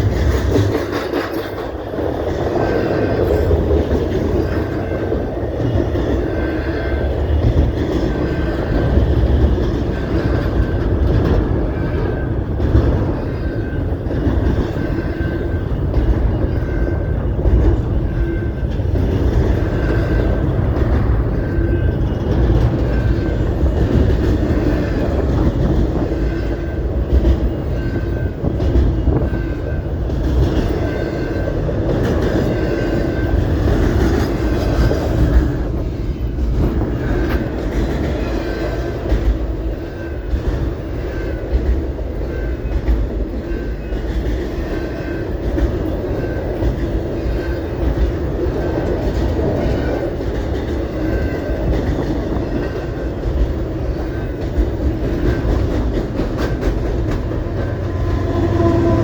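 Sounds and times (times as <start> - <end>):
train cars rolling past: 0.0 - 59.0.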